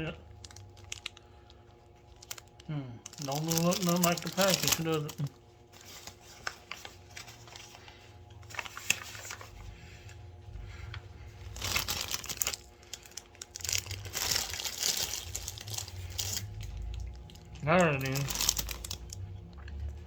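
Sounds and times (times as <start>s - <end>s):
cookie package crinkling: 0.0s - 19.9s.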